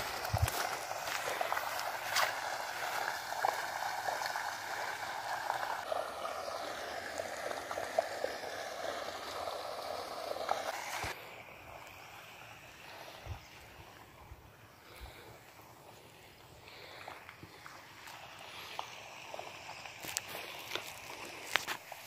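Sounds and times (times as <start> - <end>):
flowing water rushing: 0.0 - 15.9, 16.6 - 22.0.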